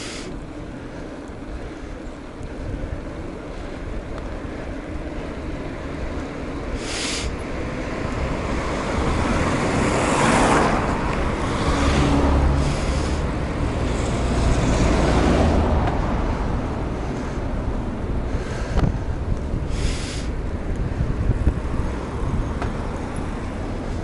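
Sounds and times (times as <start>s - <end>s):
road traffic noise: 0.0s - 24.0s
wind rushing over microphone: 2.3s - 24.0s.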